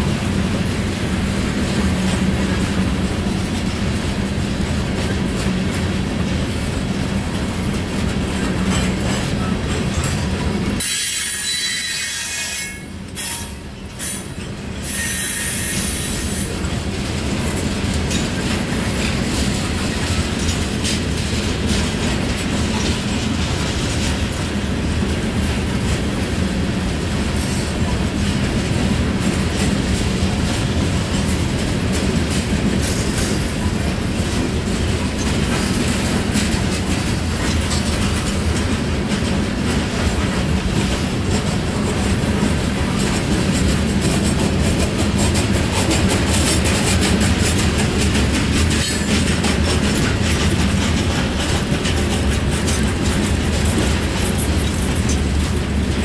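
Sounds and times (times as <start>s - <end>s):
freight train rumbling past: 0.0s - 56.0s
wheels clicking over rail joints: 0.0s - 56.0s.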